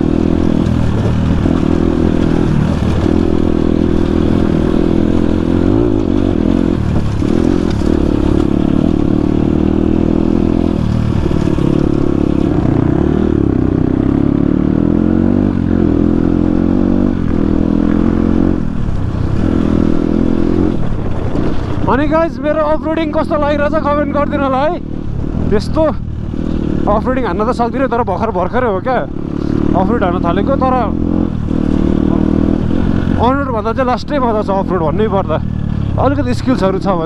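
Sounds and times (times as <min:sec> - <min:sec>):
dirt bike engine revving: 0:00.0 - 0:28.0, 0:28.9 - 0:37.0.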